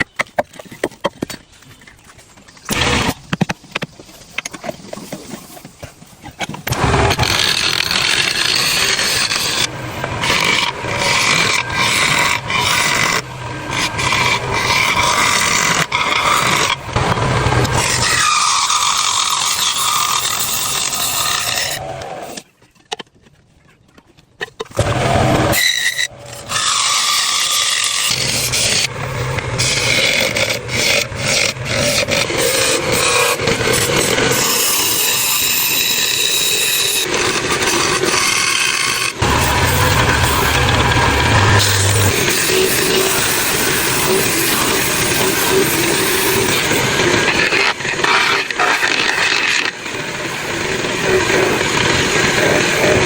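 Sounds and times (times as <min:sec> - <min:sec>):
woodworking tool grinding wood: 0:02.7 - 0:22.5, 0:24.7 - 0:53.0.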